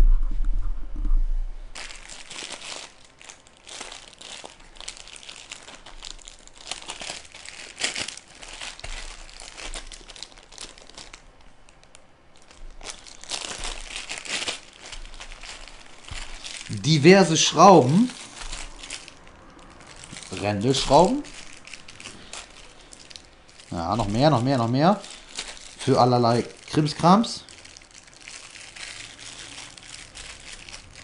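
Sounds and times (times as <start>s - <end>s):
plastic bags crinkling: 1.7s - 31.0s.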